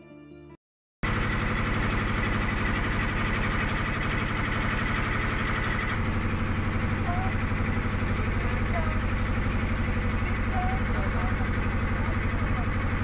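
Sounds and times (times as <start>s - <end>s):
boat engine chugging: 1.0s - 13.0s.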